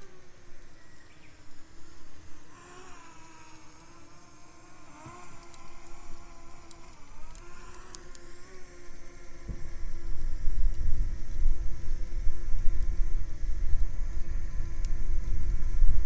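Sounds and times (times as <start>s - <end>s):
faint wavering hum: 0.0s - 16.0s
campfire crackling and popping: 3.1s - 16.0s.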